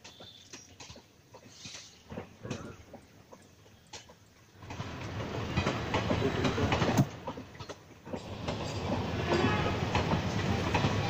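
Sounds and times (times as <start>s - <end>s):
train wheels clattering over rail joints: 0.0s - 11.0s.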